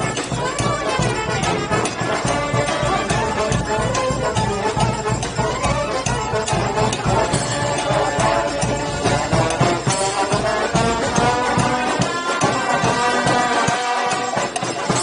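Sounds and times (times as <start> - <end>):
drum and percussion beat: 0.0 - 15.0
marching band wind instruments: 0.0 - 15.0.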